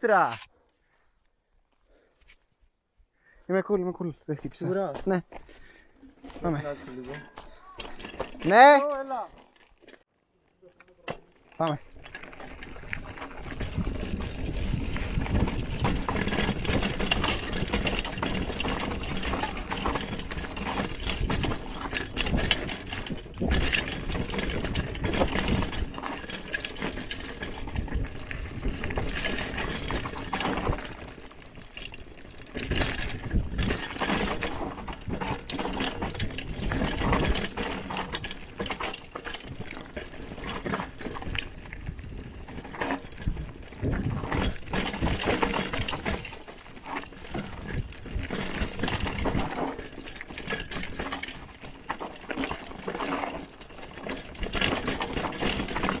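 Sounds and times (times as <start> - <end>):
tyre noise on dirt: 4.3 - 10.0, 10.6 - 56.0
bike rattling over rocky ground: 4.4 - 10.0, 10.6 - 56.0.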